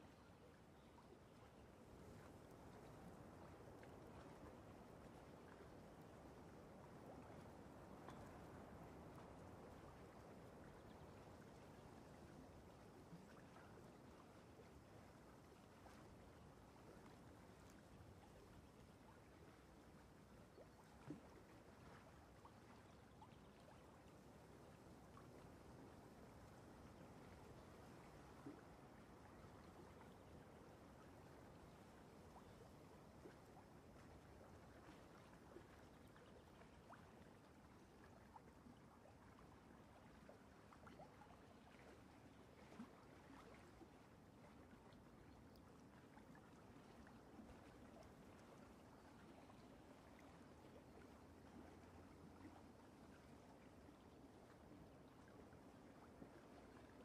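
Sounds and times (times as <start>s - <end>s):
faint room tone hiss: 0.0s - 57.0s.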